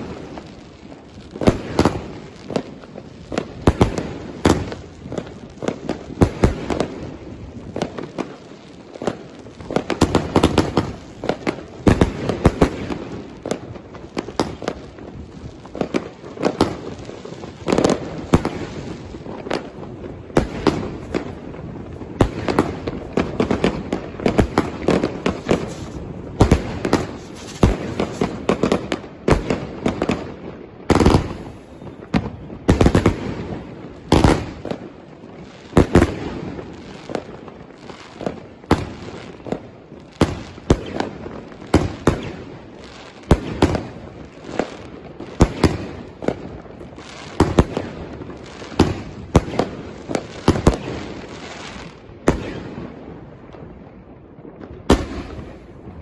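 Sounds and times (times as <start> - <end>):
firework bangs and pops: 0.0 - 56.0.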